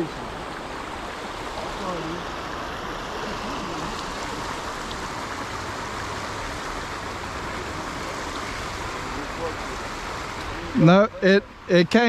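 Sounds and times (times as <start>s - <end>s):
water rushing over a dam: 0.0s - 12.0s.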